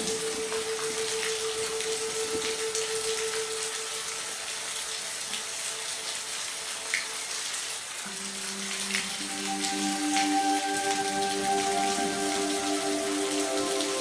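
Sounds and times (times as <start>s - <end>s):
raindrops ticking: 0.0s - 14.0s
steady rain hiss: 0.0s - 14.0s.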